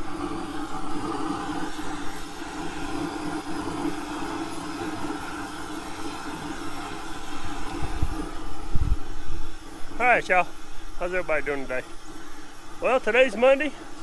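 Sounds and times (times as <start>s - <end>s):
propane burner running: 0.0s - 14.0s.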